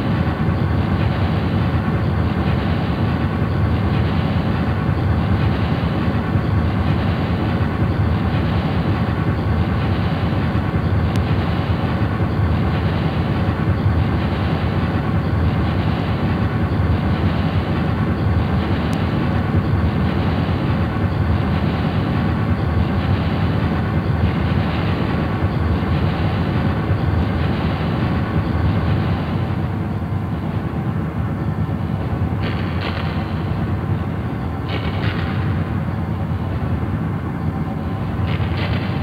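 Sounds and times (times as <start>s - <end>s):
rumbling drone noise music: 0.0s - 39.0s.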